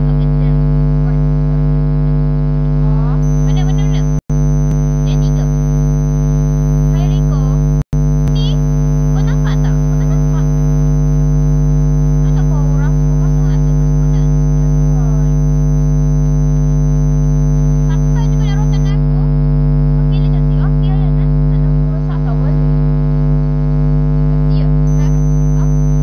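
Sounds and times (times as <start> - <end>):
loud electrical hum: 0.0 - 26.0.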